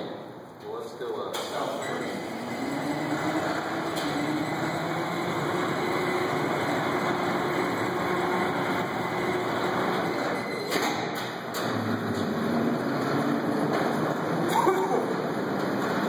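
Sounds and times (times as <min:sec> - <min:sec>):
electric hoist motor running: 0:01.6 - 0:16.0.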